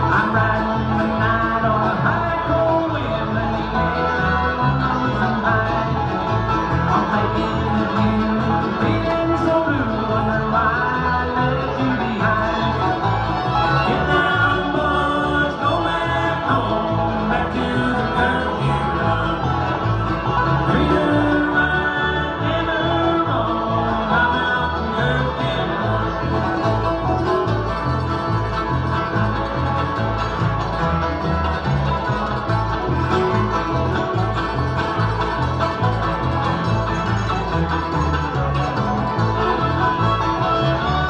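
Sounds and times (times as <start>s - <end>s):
banjo: 0.0s - 41.0s
guitar: 0.0s - 41.0s.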